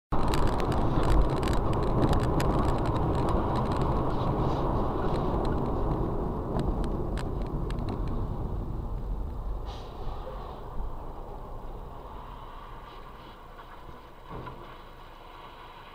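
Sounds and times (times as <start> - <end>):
car cabin road rumble: 0.1 - 15.9.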